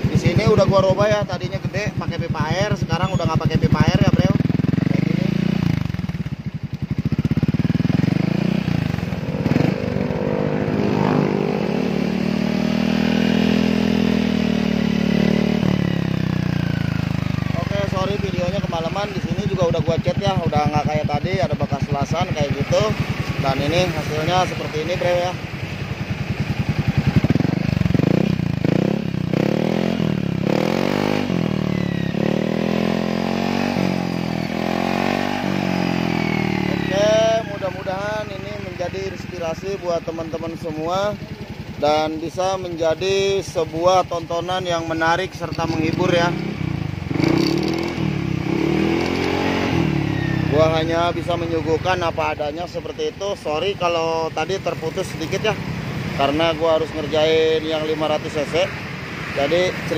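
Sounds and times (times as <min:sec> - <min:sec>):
scooter engine idling and revving: 0:00.0 - 0:59.9.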